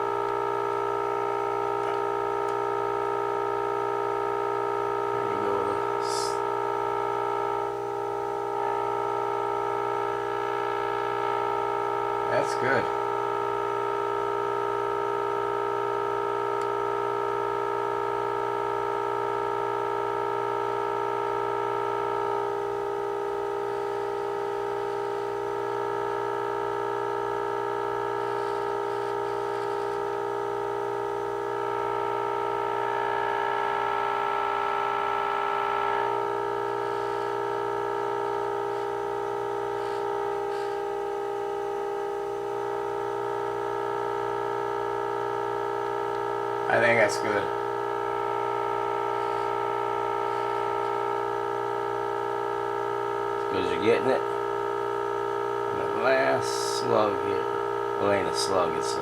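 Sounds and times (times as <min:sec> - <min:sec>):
buzzy test tone from radio: 0:00.0 - 0:59.0.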